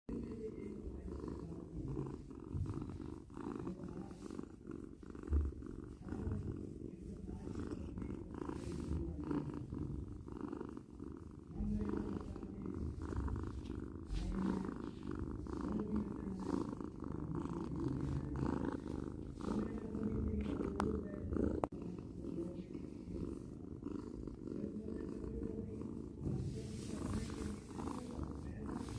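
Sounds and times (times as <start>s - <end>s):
cat purring: 0.1s - 28.9s.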